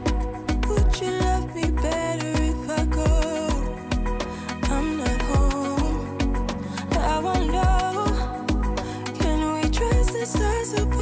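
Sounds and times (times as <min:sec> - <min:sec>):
pop song with singing: 0:00.0 - 0:11.0
deep bass-drum hits: 0:00.1 - 0:02.0, 0:02.8 - 0:10.2.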